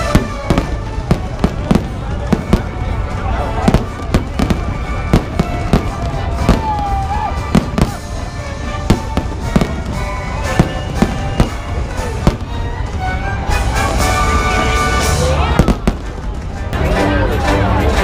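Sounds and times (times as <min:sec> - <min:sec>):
fireworks bangs and pops: 0:00.0 - 0:13.1, 0:13.8 - 0:16.8
music playing: 0:00.0 - 0:18.0.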